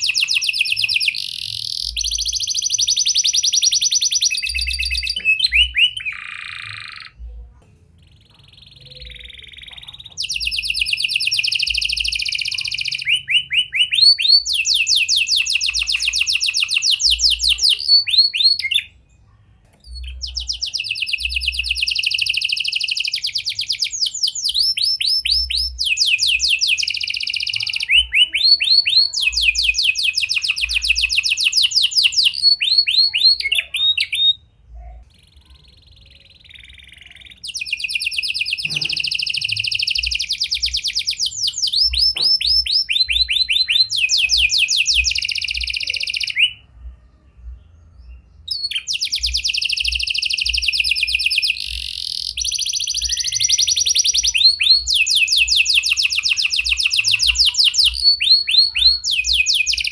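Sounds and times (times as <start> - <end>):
canary singing trilled phrases: 0.0 - 46.8, 47.4 - 59.9.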